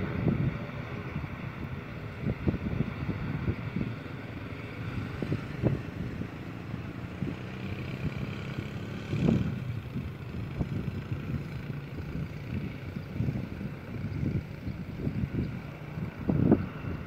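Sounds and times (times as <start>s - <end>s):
distant turboprop engines humming: 0.0s - 17.0s
wind buffeting microphone: 0.0s - 17.0s.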